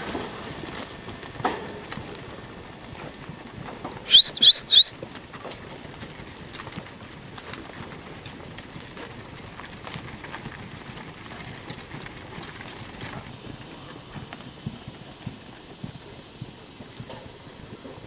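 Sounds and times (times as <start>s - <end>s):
calf hooves on dirt: 0.0s - 18.0s.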